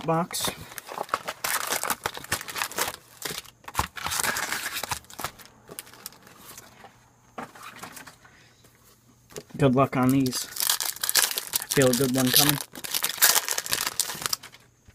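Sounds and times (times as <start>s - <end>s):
foil packs rustling and crinkling: 0.0s - 6.8s, 9.5s - 14.7s.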